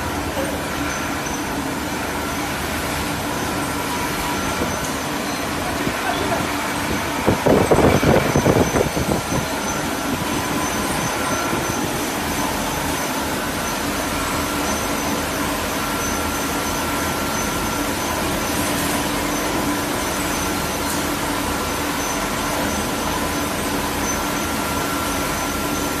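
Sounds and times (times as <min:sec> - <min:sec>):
bottle washing machine humming: 0:00.0 - 0:26.0.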